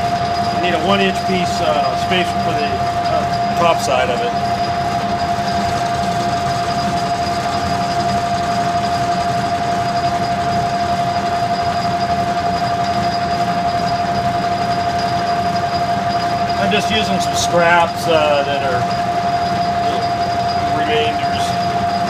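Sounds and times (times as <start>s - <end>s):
metal lathe whining: 0.0s - 22.0s.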